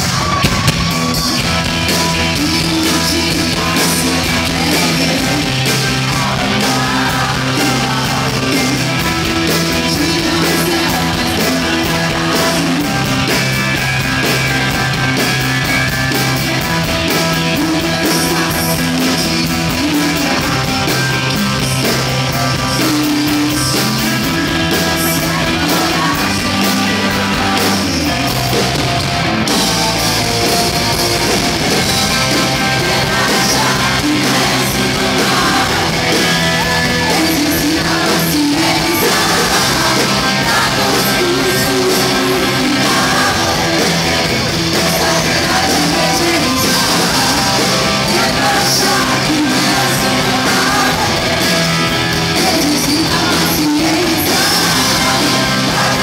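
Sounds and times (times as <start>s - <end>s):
person singing: 0.0s - 13.6s, 16.1s - 28.8s, 29.5s - 56.0s
bass guitar: 0.0s - 56.0s
drums: 0.0s - 56.0s
electric guitars: 0.0s - 56.0s
keyboard: 0.0s - 56.0s.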